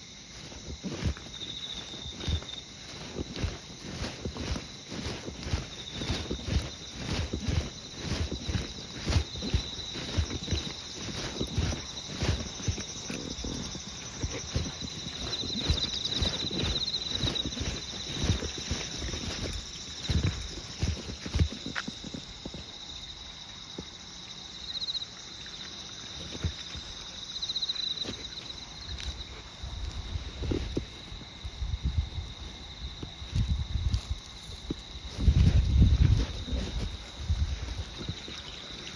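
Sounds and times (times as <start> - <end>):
person walking footsteps: 0.0 - 24.1, 25.2 - 38.9
insects chirring: 0.0 - 38.9.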